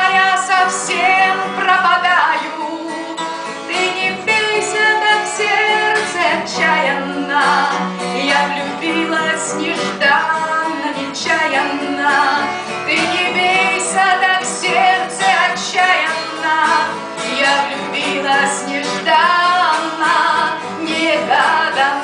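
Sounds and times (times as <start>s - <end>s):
instrumental accompaniment: 0.0s - 22.0s
woman singing: 0.0s - 22.0s.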